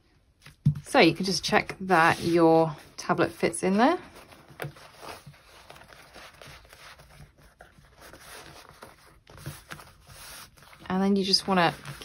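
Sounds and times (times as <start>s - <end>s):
rustling fabric handling: 0.9s - 12.0s.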